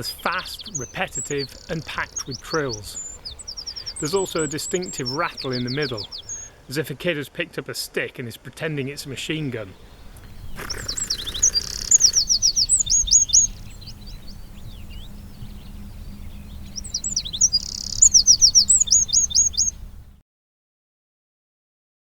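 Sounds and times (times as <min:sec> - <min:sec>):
wren singing trills: 0:00.0 - 0:07.0, 0:08.6 - 0:20.2.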